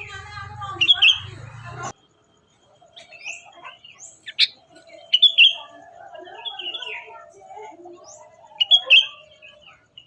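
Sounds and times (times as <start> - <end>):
low continuous bird warble: 0.0 - 10.0
songbirds chirping: 0.0 - 10.0.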